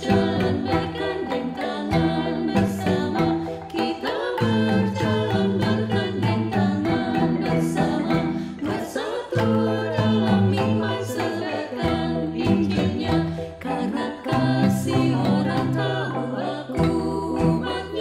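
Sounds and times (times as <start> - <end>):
voices singing a hymn: 0.0 - 18.0
wooden xylophone ensemble: 0.0 - 18.0.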